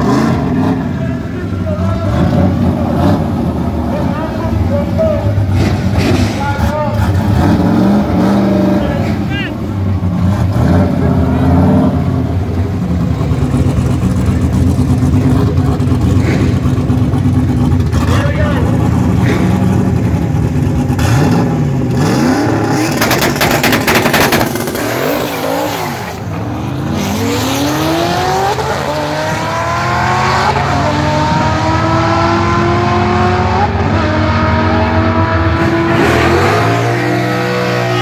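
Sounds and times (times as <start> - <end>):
drag car engine accelerating: 0.0 - 38.0.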